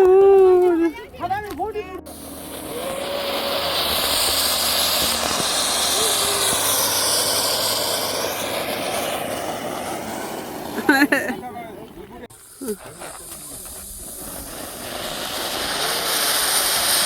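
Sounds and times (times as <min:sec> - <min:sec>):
firework hissing: 0:00.0 - 0:17.0.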